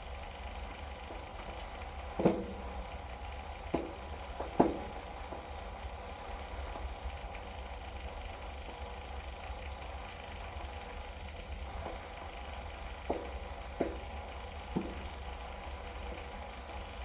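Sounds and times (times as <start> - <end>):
water heater rumbling: 0.1 - 17.0.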